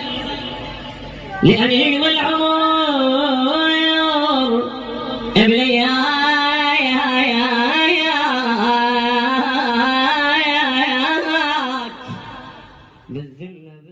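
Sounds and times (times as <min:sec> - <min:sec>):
man singing a mourning lament: 0:01.4 - 0:13.9.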